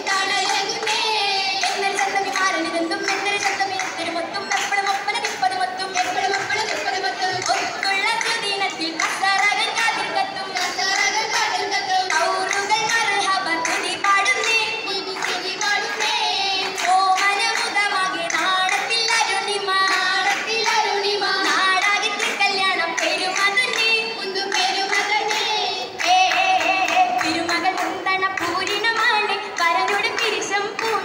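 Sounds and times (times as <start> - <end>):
rhythmic hand claps: 0.0 - 31.0
young women singing: 0.0 - 31.0.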